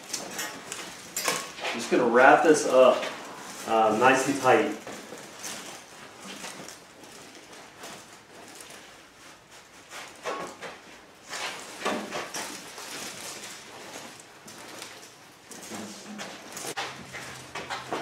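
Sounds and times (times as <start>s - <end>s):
heavy blankets rustling and scraping: 0.0s - 18.0s.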